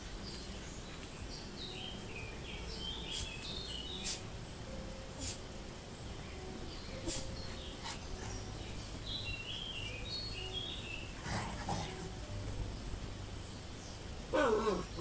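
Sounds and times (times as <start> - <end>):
small bird chirping: 0.0 - 5.4, 6.0 - 15.0
outdoor background noise: 0.0 - 15.0.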